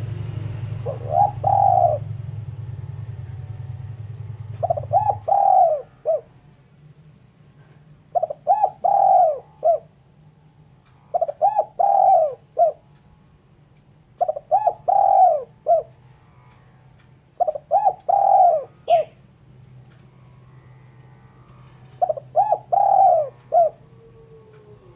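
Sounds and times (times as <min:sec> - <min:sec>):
dove cooing: 0:00.0 - 0:06.5, 0:07.6 - 0:10.0, 0:11.1 - 0:13.0, 0:14.2 - 0:19.2, 0:19.9 - 0:24.9
faint low hum: 0:00.0 - 0:24.9.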